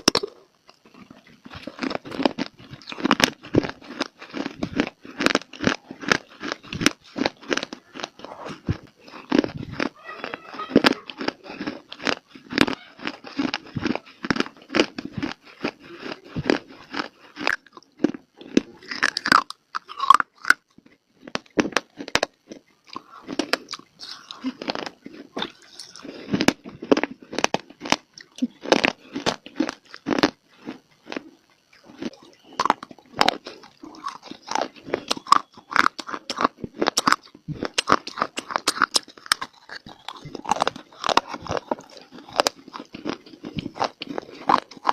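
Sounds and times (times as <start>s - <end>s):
chewing: 0.0s - 44.9s
crunching hard dry clay: 0.0s - 44.9s.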